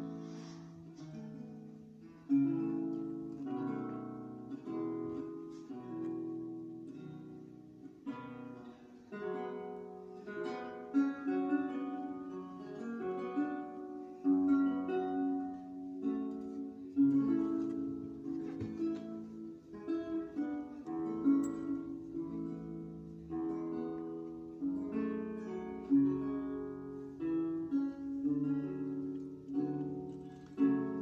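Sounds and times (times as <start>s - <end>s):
plucked theorbo notes and chords: 0.0s - 31.0s.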